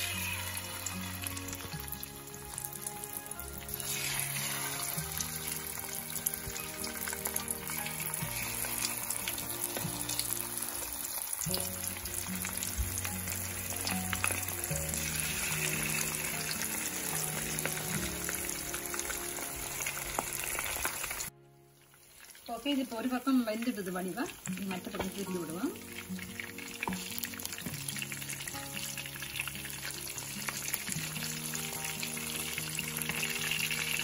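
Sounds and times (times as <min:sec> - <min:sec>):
background music: 0:00.0 - 0:34.0
fish sizzling in hot oil: 0:00.0 - 0:34.0.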